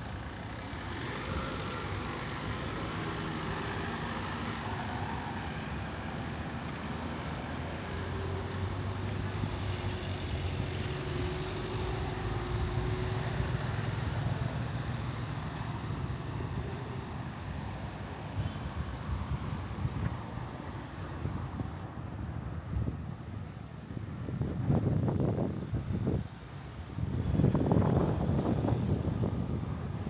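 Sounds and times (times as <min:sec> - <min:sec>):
street traffic passing: 0:00.0 - 0:30.0.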